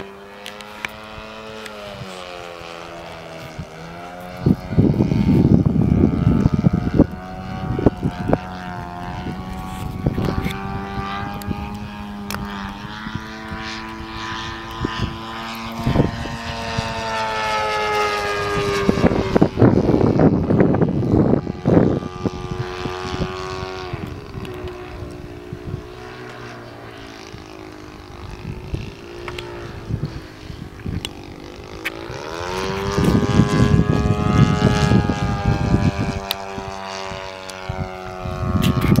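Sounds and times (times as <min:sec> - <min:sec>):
model airplane engine: 0:00.0 - 0:39.0
wind buffeting microphone: 0:00.0 - 0:39.0.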